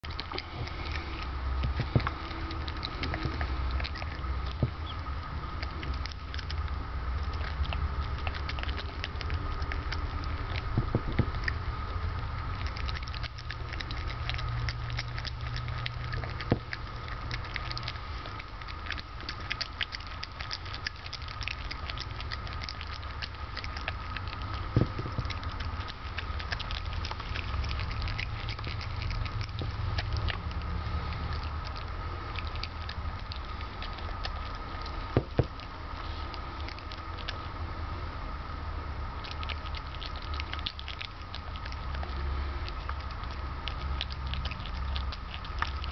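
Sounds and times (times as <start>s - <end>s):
animal chewing with wet clicks: 0.0s - 38.3s, 38.9s - 45.9s
steady low hum: 0.0s - 45.9s.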